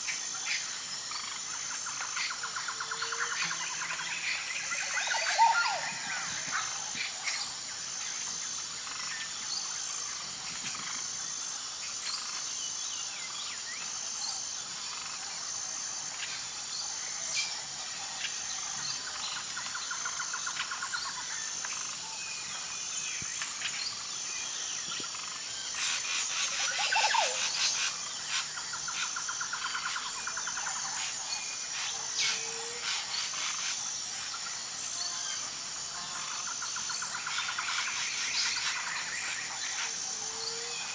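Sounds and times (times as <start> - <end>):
bird calls and trills: 0.0 - 40.9
high pulsing insect drone: 0.0 - 40.9.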